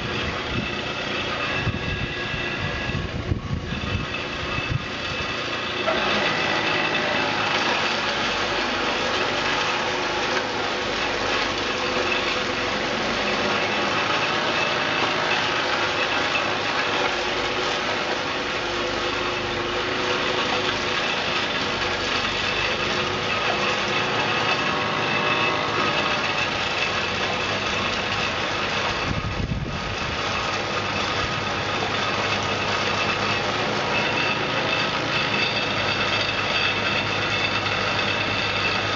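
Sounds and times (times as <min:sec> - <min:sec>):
snowblower engine running: 0:00.0 - 0:38.9
snowblower throwing wet snow: 0:00.0 - 0:38.9.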